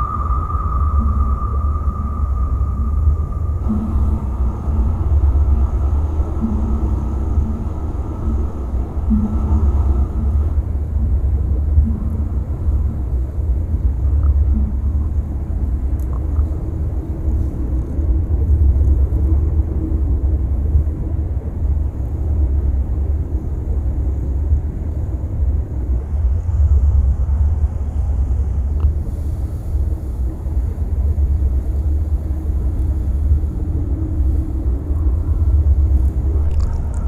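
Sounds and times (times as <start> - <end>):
muffled underwater rumble: 0.0 - 37.0.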